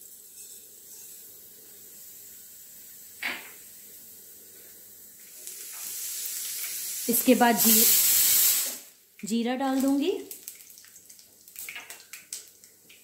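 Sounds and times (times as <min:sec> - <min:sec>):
seeds sizzling in hot oil: 0:00.0 - 0:13.0.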